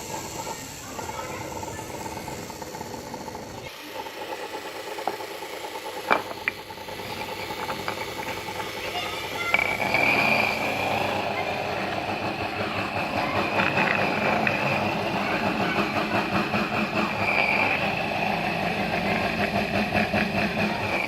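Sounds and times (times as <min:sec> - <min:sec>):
motor high whine: 0:00.0 - 0:21.0
rough mechanical running noise: 0:00.0 - 0:21.0.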